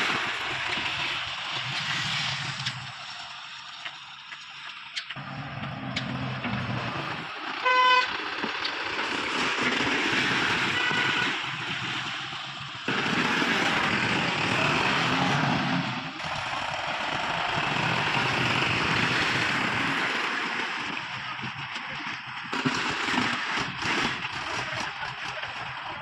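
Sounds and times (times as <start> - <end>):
diesel machinery clattering: 0.0 - 26.0.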